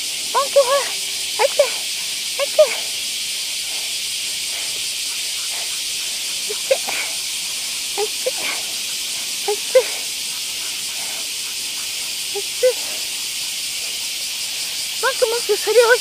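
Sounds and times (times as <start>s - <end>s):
cicada chorus hissing: 0.0s - 16.0s
short insect chirps: 0.0s - 16.0s.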